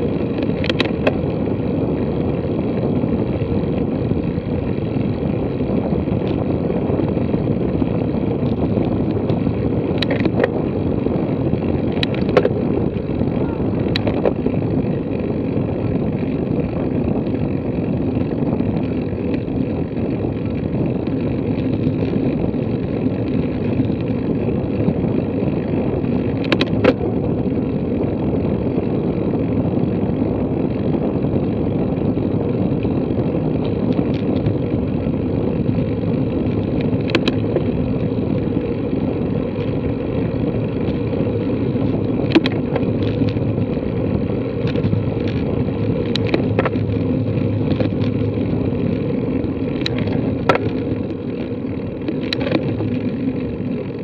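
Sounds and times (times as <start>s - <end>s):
bicycle tyres rumbling on asphalt: 0.0s - 54.0s
wind: 0.0s - 54.0s.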